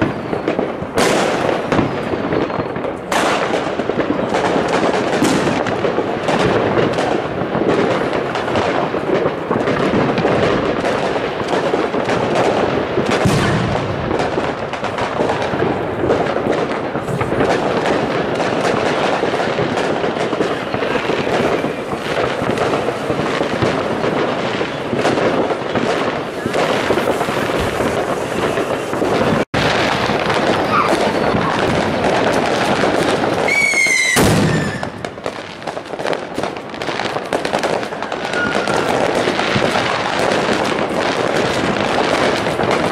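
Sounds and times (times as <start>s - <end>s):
fireworks bangs and crackle: 0.0s - 42.9s.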